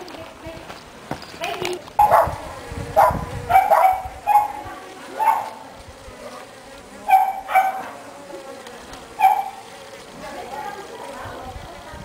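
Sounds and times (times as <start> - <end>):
bees humming: 0.8 - 11.9
bees buzzing past microphone: 2.0 - 12.0.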